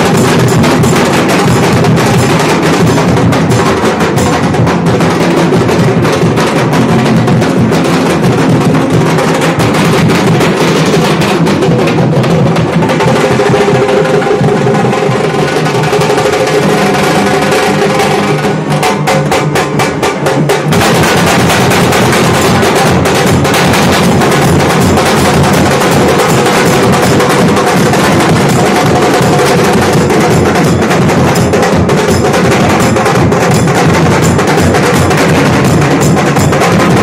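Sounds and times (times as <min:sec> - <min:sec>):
dhol drums beaten fast: 0:00.0 - 0:37.0.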